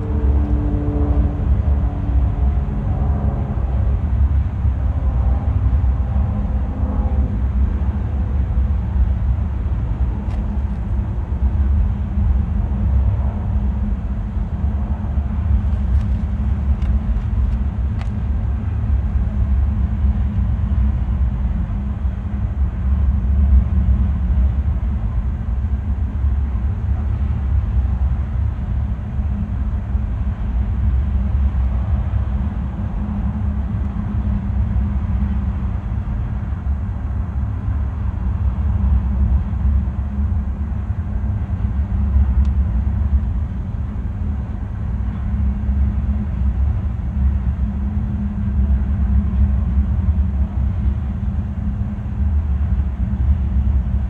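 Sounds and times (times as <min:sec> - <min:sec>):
diesel locomotive drone: 0:00.0 - 0:54.0
train rumbling past: 0:00.0 - 0:54.0.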